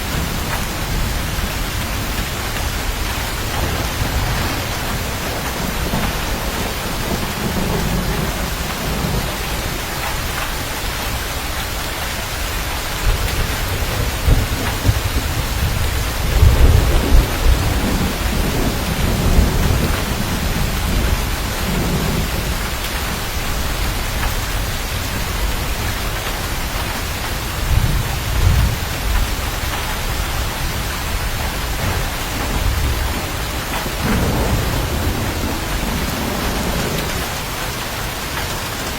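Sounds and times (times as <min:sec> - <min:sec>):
heavy rain: 0:00.0 - 0:38.9
rolling thunder: 0:00.0 - 0:38.9.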